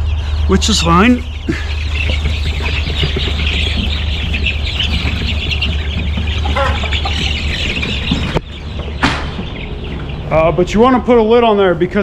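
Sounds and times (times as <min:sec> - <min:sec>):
chicks peeping: 0:00.0 - 0:12.0
steady low hum: 0:00.0 - 0:12.0.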